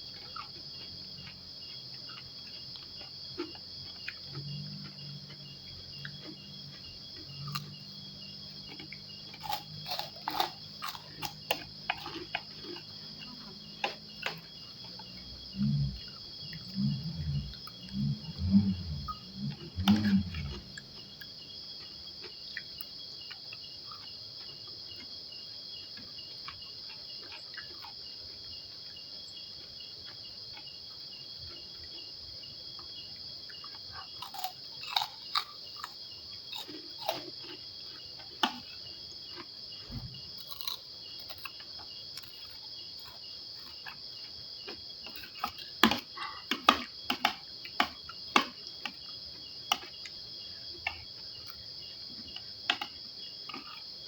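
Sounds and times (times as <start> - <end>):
sharp clicks of eating: 0.0 - 25.2, 25.9 - 28.1, 32.8 - 54.0
crickets trilling: 0.0 - 54.0.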